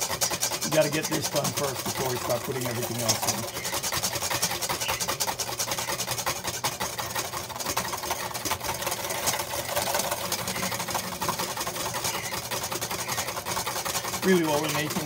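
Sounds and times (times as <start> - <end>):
whisk clattering in metal bowl: 0.0 - 15.0.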